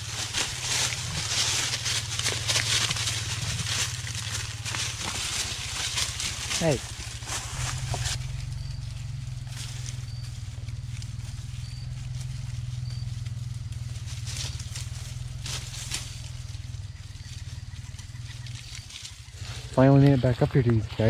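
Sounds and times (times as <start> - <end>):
twigs and dead leaves rustling: 0.0 - 21.0.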